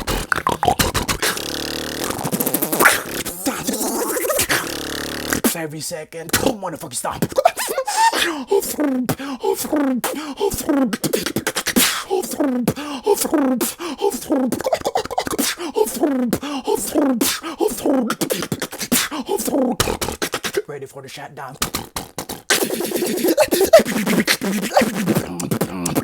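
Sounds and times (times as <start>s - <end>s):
person beatboxing: 0.0s - 26.0s.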